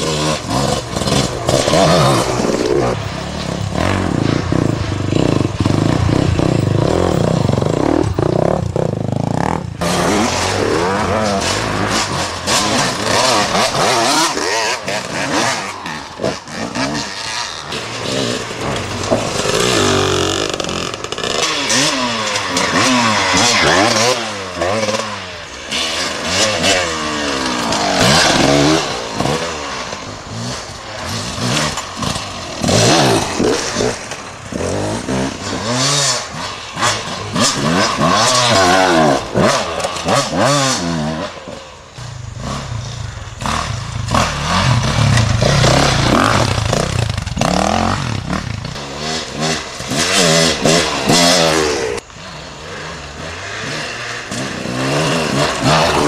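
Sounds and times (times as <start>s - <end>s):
dirt bikes passing: 0.0s - 56.0s.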